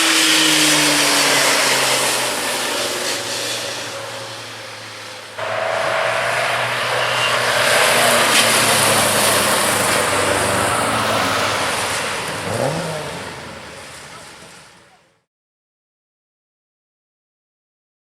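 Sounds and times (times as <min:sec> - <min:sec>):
racing car engine passing: 0:00.0 - 0:15.0.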